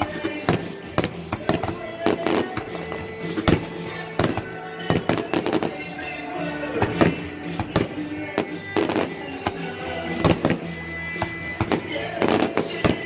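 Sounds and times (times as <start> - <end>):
fireworks banging: 0.0 - 13.0
music with sustained tones: 0.0 - 13.0.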